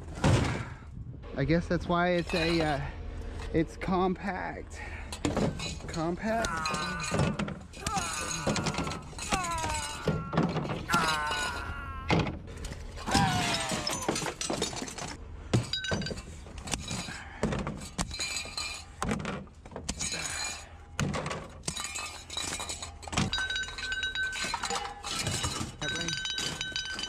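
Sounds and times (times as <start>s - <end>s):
knocks and clatters of junk: 0.0s - 3.6s, 4.8s - 27.0s
glass clinking and breaking: 5.1s - 27.0s.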